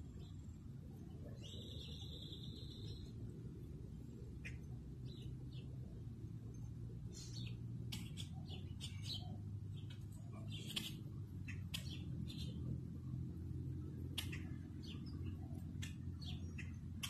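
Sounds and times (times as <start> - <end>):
low background rumble: 0.0 - 17.0
small birds chirping: 1.0 - 3.2, 4.4 - 17.0.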